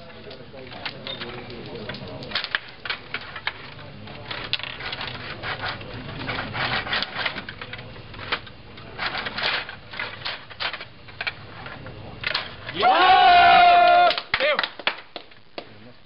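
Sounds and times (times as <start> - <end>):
table hockey rods clacking: 0.0 - 12.9.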